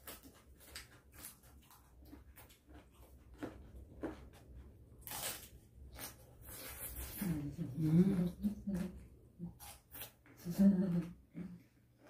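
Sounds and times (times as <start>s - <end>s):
chewing raw vegetables: 0.0s - 12.0s.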